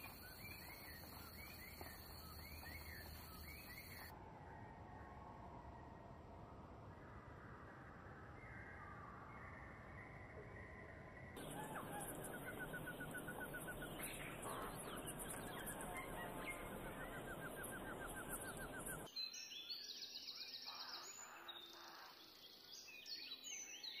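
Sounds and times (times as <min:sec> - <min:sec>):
birdsong chorus: 0:00.0 - 0:04.2, 0:08.2 - 0:24.0.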